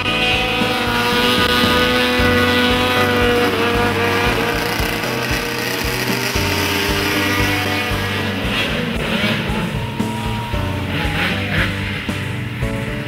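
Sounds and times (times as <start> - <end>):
rock music: 0.0 - 13.0
snowmobile engine running: 0.0 - 13.0.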